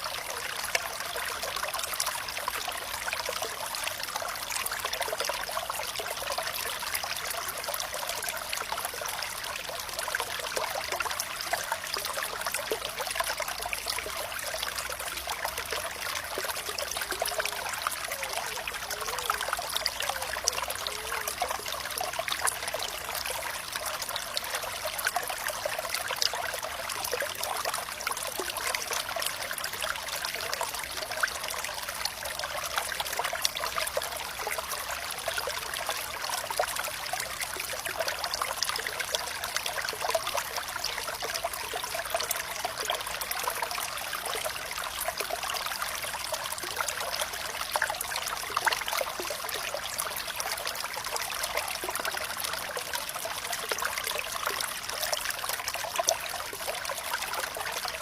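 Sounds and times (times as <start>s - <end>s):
water running and trickling: 0.0s - 58.0s.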